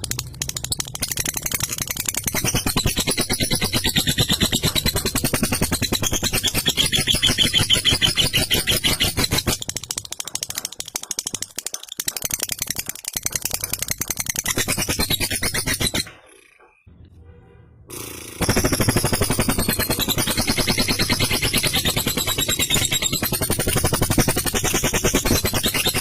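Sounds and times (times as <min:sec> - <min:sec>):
lovebird rattling chatter: 0:00.0 - 0:16.8, 0:18.3 - 0:26.0.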